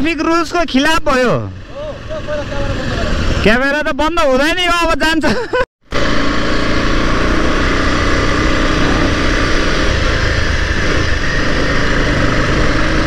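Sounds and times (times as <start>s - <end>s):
motorcycle cruising: 0.0s - 3.9s, 5.8s - 13.0s.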